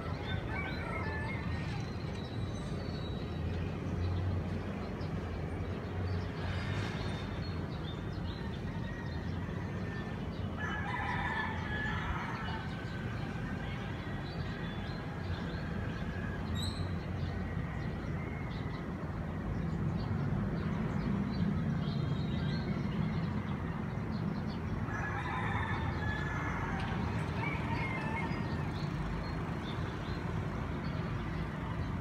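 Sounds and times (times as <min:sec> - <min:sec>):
city traffic hum: 0:00.0 - 0:32.0.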